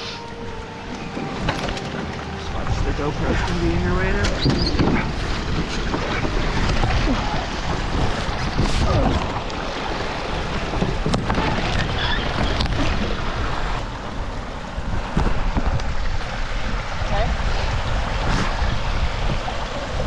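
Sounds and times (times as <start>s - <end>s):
rustling of rain gear and twigs: 0.0s - 16.8s
wind buffeting microphone: 0.9s - 20.0s.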